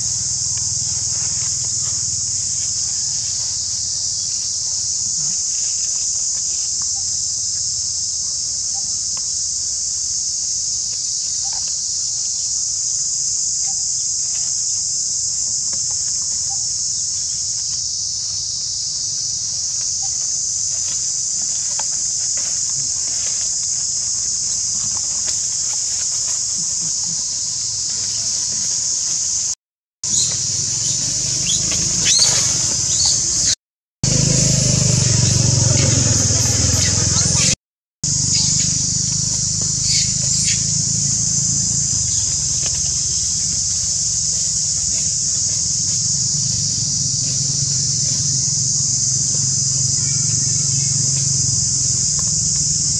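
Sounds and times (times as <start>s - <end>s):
dry leaves rustling: 0.0s - 52.9s
insects droning: 0.0s - 52.9s.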